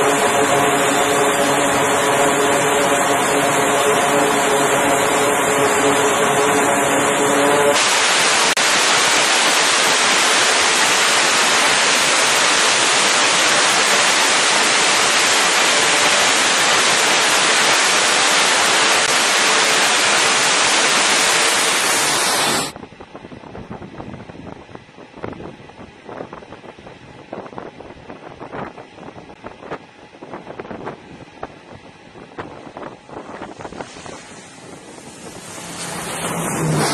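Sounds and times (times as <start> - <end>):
turboprop engines running: 0.0 - 36.9.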